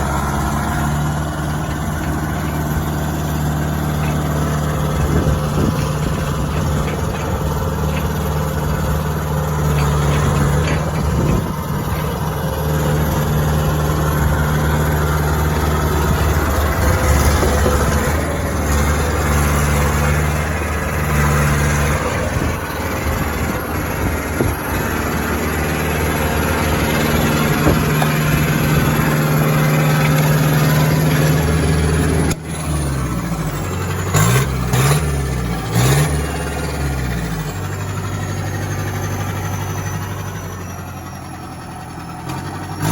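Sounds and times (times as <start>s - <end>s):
excavator diesel engine revving: 0.0s - 42.9s.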